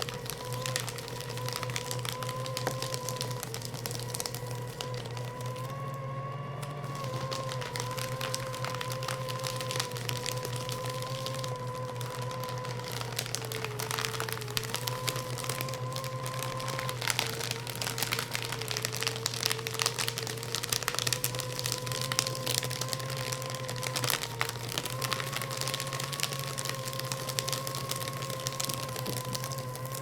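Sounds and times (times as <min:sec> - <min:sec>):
paper crackling and tearing: 0:00.0 - 0:30.0
paper shredder motor hum: 0:00.0 - 0:30.0.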